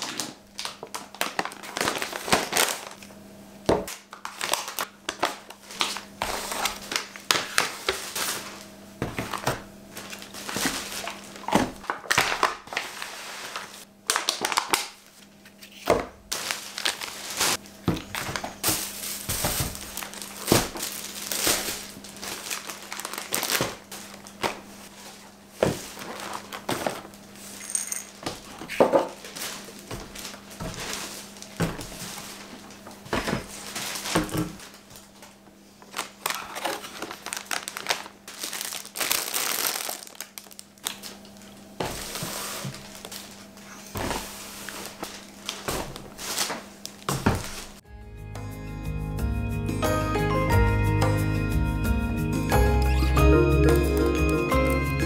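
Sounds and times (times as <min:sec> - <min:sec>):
plastic bags rustling: 0:00.0 - 0:03.0, 0:04.0 - 0:47.9.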